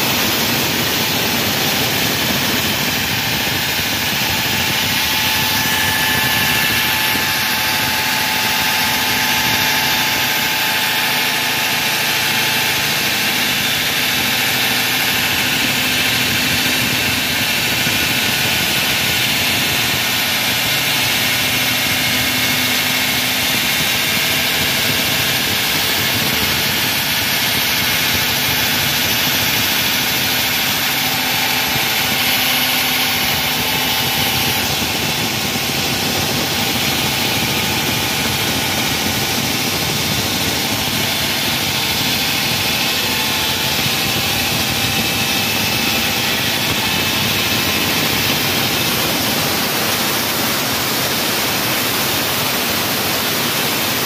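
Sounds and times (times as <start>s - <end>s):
wall saw cutting: 0.0s - 54.0s.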